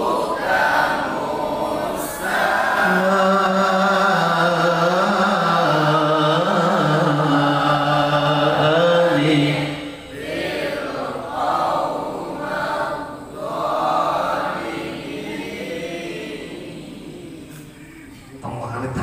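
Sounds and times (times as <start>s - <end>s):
boys reciting in unison: 0.0s - 18.8s.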